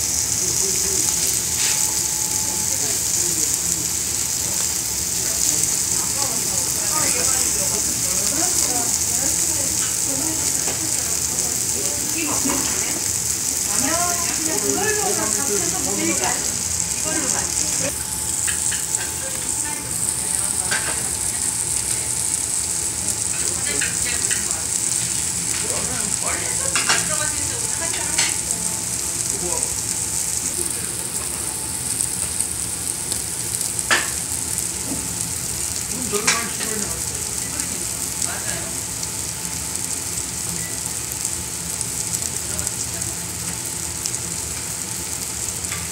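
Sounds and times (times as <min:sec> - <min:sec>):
meat sizzling on a grill plate: 0:00.0 - 0:45.9.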